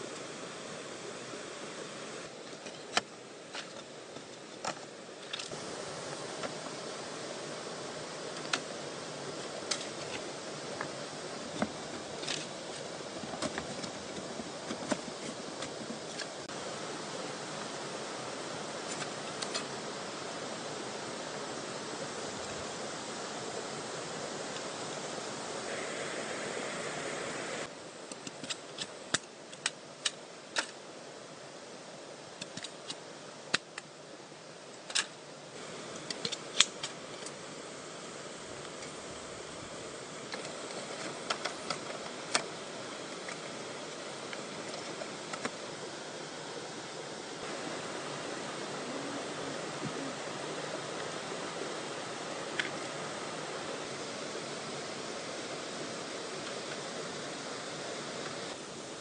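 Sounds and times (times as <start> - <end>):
steady background hiss: 0.0 - 59.0
steady rushing noise: 0.0 - 59.0.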